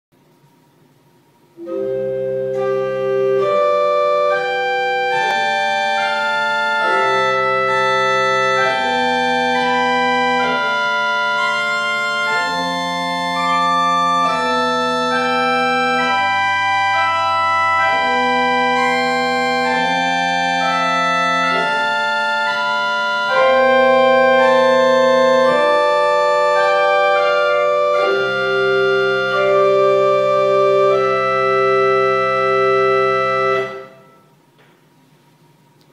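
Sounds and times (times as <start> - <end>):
pipe organ chords: 0.8 - 35.9
organ pedal bass notes: 1.5 - 35.5.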